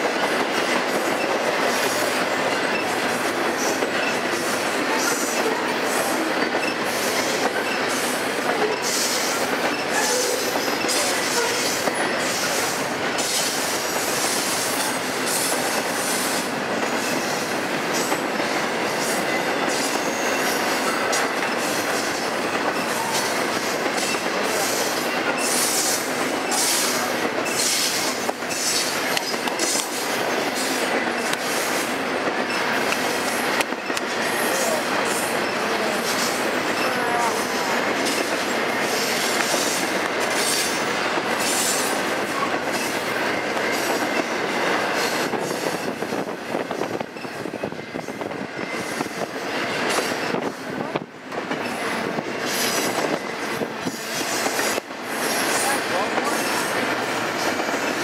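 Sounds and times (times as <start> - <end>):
train wheels rushing on rails: 0.0 - 58.0.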